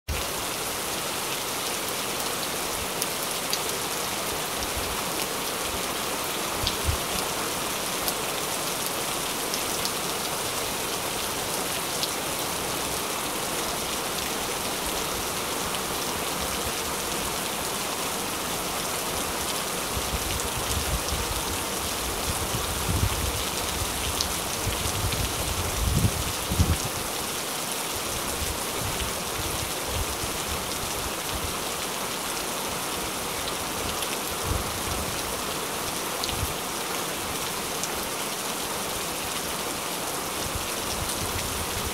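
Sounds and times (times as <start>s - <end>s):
steady rain falling: 0.1s - 41.9s.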